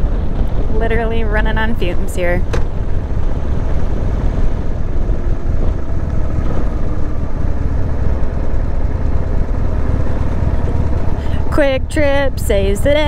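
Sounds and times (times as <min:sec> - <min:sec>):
motorcycle engine running low speed: 0:00.0 - 0:13.0.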